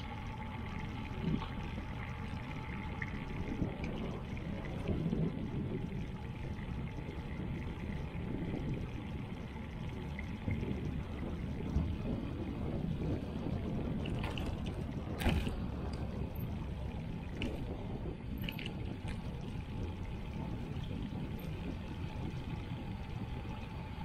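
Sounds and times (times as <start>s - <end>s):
bicycle rolling over paving: 0.0s - 24.0s
wind buffeting microphone: 0.0s - 24.0s.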